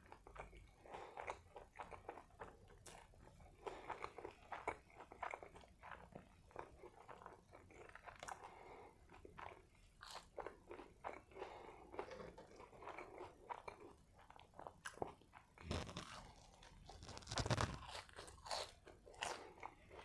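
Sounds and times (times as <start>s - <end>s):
chewing food with crunches: 0.0s - 20.0s.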